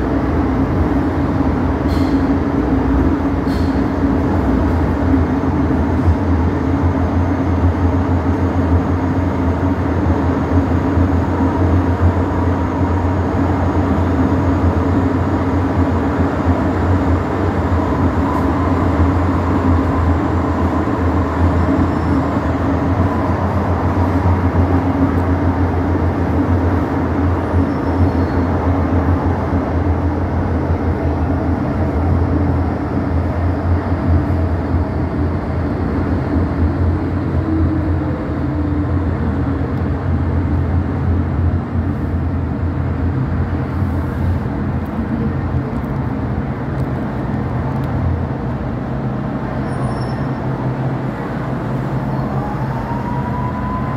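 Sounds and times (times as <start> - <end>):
train low hum: 0.0 - 53.9
wheel-on-rail rumble: 0.0 - 53.9.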